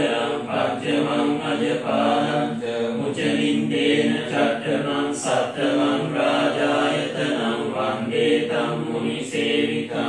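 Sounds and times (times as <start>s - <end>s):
monks chanting: 0.0s - 10.0s.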